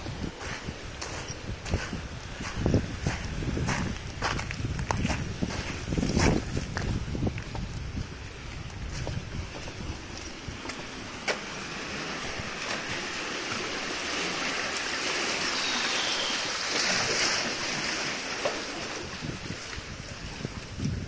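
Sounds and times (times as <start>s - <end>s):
seawater surging through rock channel: 0.0s - 21.0s.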